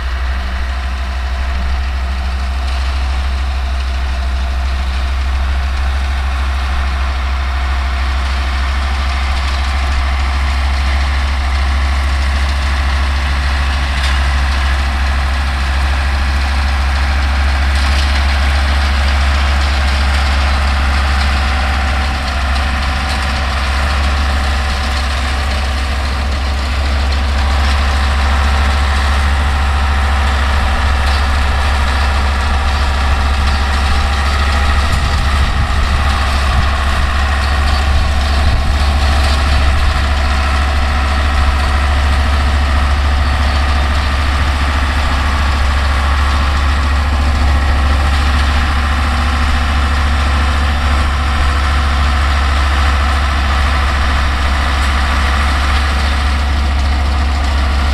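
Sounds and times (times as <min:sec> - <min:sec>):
round baler working through hay: 0:00.0 - 0:57.9
tractor diesel engine under load: 0:00.0 - 0:57.9.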